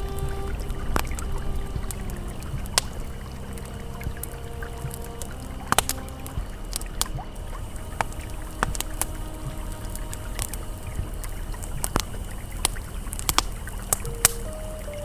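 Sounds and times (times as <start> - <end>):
campfire crackling and popping: 0.0 - 15.0
flowing river rushing: 0.0 - 15.0
soft ambient music tones: 0.0 - 15.0.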